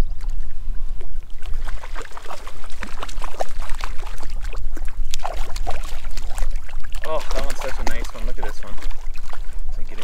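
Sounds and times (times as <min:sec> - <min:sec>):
fish splashing at water surface: 0:01.3 - 0:10.0.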